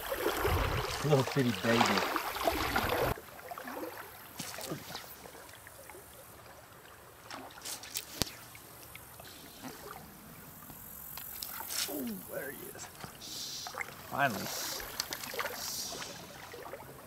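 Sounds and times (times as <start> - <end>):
water lapping and trickling: 0.0 - 17.0.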